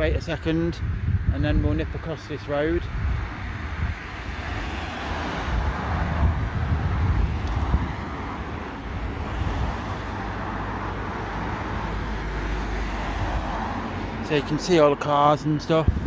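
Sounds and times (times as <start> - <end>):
wind rumbling on microphone: 0.0 - 14.7, 15.7 - 16.0
cars passing: 0.0 - 16.0.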